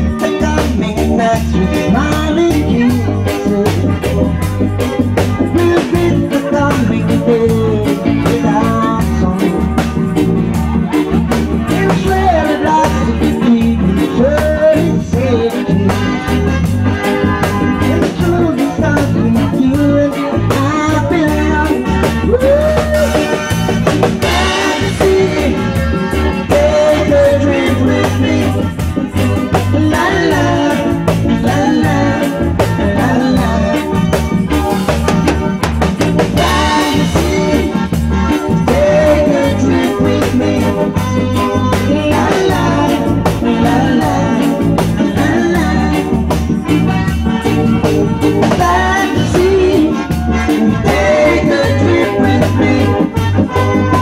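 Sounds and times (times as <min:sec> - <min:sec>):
drum kit: 0:00.0 - 0:54.0
electric bass line: 0:00.0 - 0:54.0
electric guitars: 0:00.0 - 0:54.0
electronic keyboard: 0:00.0 - 0:54.0.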